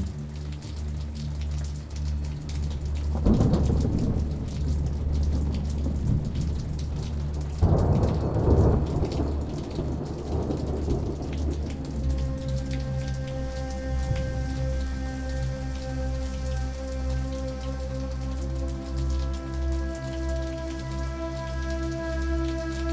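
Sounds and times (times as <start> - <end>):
steady rainfall: 0.0 - 22.9.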